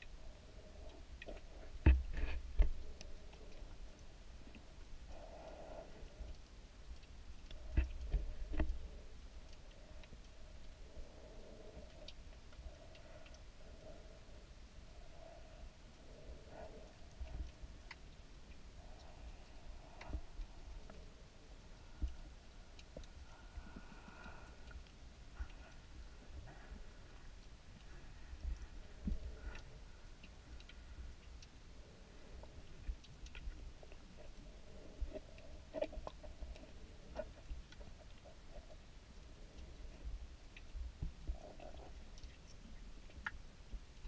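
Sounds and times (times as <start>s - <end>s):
muffled underwater rumble: 0.0s - 43.9s
underwater clicks and ticks: 0.0s - 44.0s.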